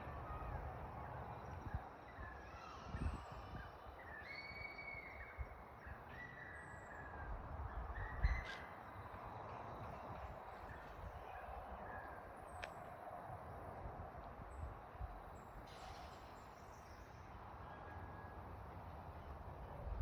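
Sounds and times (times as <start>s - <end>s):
steady outdoor background: 0.0s - 20.0s.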